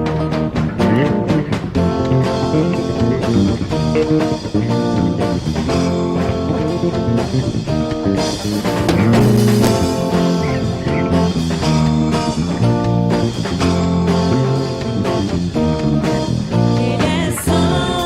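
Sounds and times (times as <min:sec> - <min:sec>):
bass guitar: 0:00.0 - 0:18.0
drum kit with cymbals: 0:00.0 - 0:18.0
guitar: 0:00.0 - 0:18.0.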